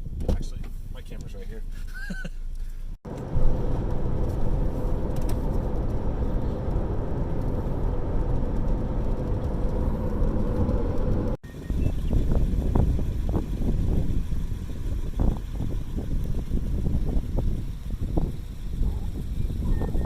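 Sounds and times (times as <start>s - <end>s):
road and engine noise inside car: 3.0s - 20.0s.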